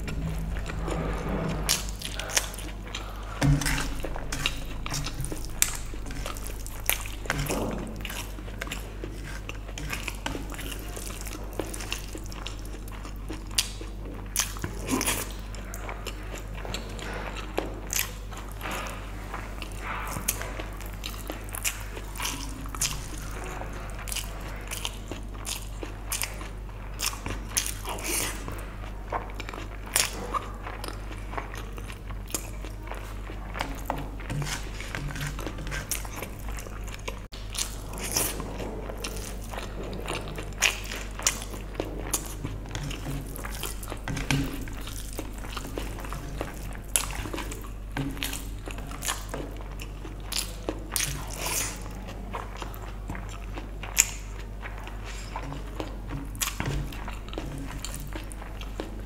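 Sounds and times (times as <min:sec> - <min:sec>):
steady low hum: 0:00.0 - 0:59.0
wet chewing smacks and clicks: 0:01.7 - 0:59.0.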